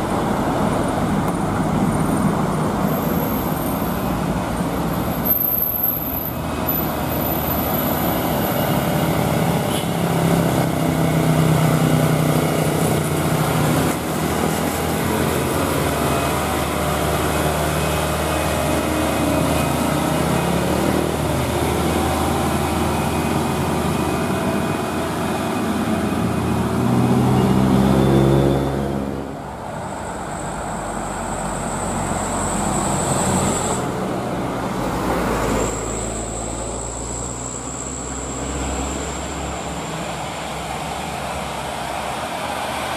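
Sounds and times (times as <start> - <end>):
diesel truck engine labouring: 0.0 - 42.9.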